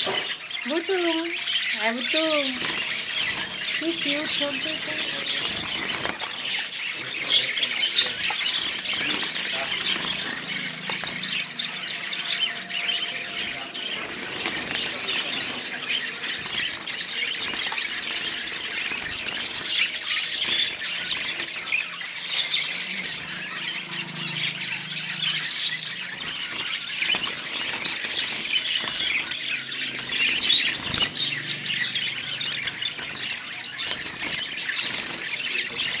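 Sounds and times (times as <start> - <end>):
finches chirping: 0.0 - 36.0.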